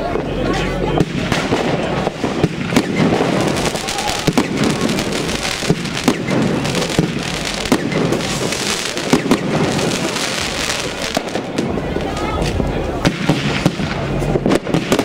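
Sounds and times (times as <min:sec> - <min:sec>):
firework bangs: 0:00.0 - 0:15.0
firework crackling hiss: 0:00.0 - 0:15.0.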